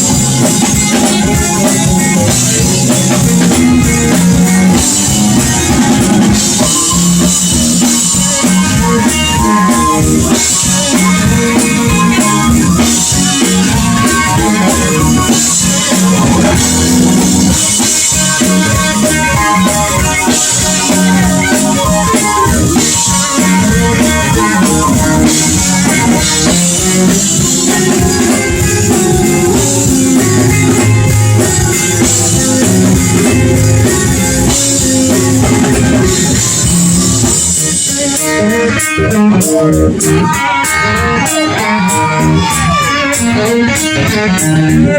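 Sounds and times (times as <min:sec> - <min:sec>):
blues-rock band playing: 0:00.0 - 0:44.9
electric guitar lines: 0:00.0 - 0:44.9.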